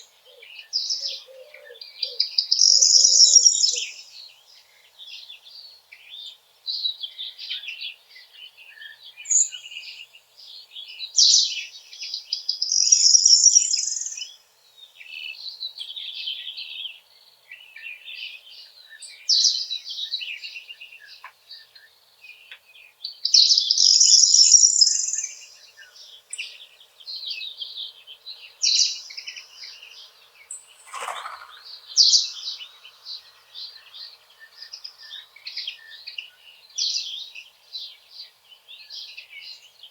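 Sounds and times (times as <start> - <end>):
loud high bird song: 0.0 - 39.9
songbirds chirping and singing: 0.0 - 39.9.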